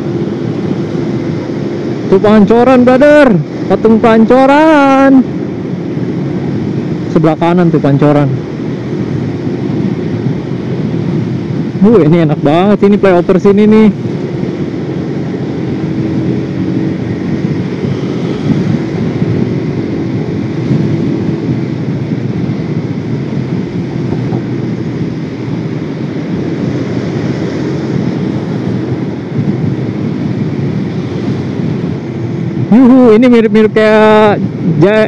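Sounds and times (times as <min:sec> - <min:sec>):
motorcycle engine: 0:00.0 - 0:35.0
road noise: 0:00.0 - 0:35.0
wind rush over microphone: 0:00.0 - 0:35.0.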